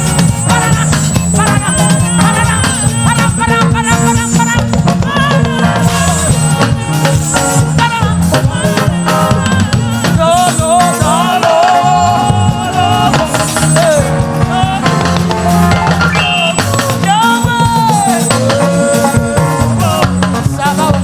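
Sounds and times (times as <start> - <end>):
person singing: 0.0 - 21.0
upbeat gospel band playing: 0.0 - 21.0.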